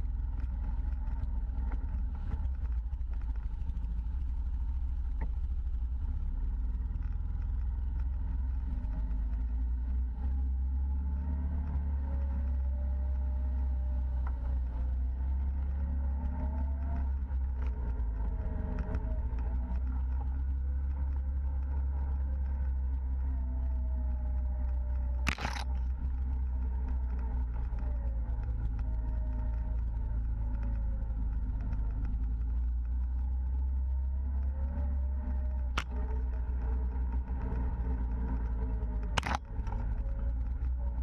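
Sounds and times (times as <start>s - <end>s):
engine running with low hum: 0.0s - 41.0s.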